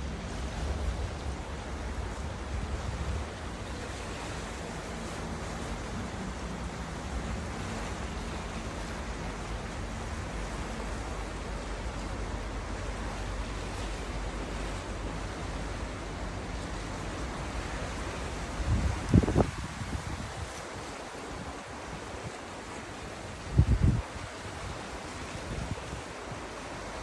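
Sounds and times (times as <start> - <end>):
sea waves: 0.0 - 27.0
wind: 0.0 - 27.0.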